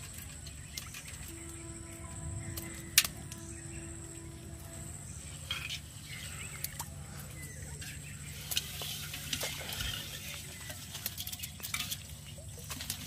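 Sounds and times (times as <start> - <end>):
shrimp crackling in a metal pot: 0.0 - 13.0.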